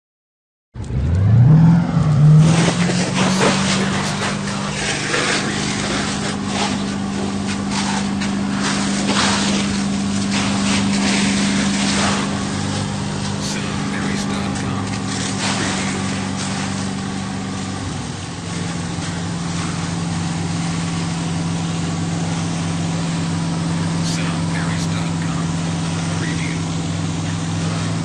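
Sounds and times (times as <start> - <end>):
fire truck engine revving: 0.8 - 28.0
water stream spraying: 2.3 - 28.0.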